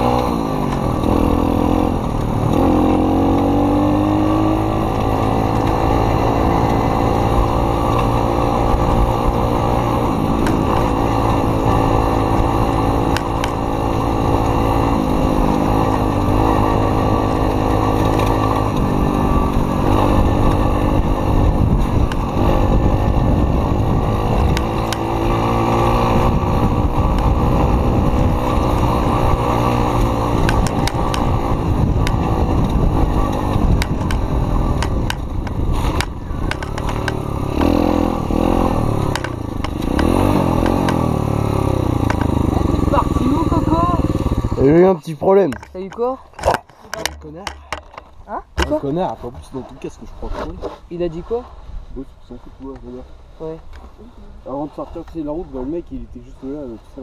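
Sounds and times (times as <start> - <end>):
motocross bike engine: 0.0 - 51.6.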